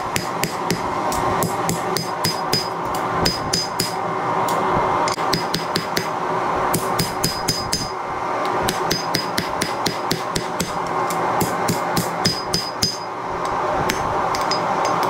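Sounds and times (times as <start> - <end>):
hammer striking steel on anvil: 0.0 - 4.0, 5.1 - 6.1, 6.7 - 13.2, 13.9 - 15.0
forge rushing noise: 0.0 - 15.0.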